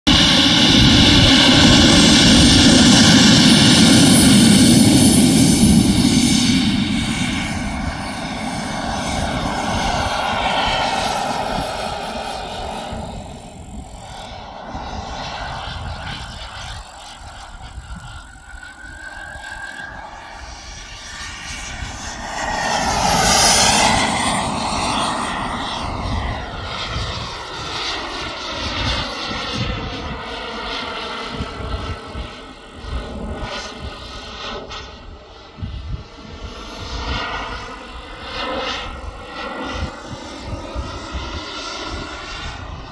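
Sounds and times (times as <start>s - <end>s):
model jet turbine whine: 0.1s - 42.9s.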